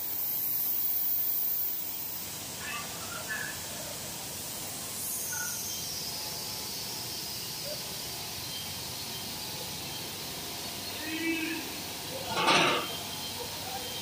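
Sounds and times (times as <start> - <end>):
production line machinery hiss and hum: 0.0 - 14.0.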